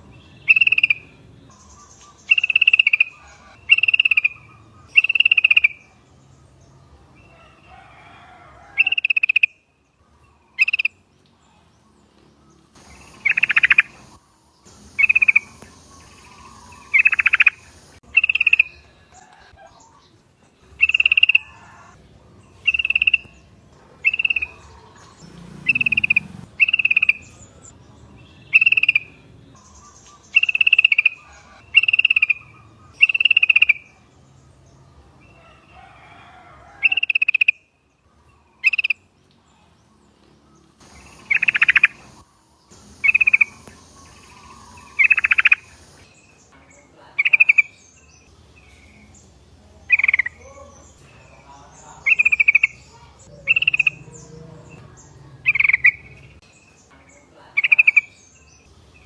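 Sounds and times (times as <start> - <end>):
bulbuls calling: 0.0 - 59.0.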